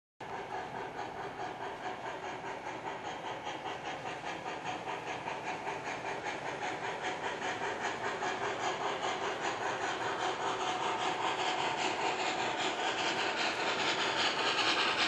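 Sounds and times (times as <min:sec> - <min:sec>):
model steam locomotive chuffing: 0:00.2 - 0:15.0.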